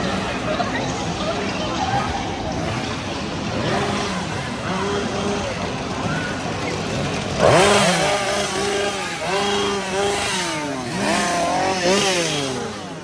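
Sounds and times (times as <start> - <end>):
chainsaw revving: 2.5 - 13.0.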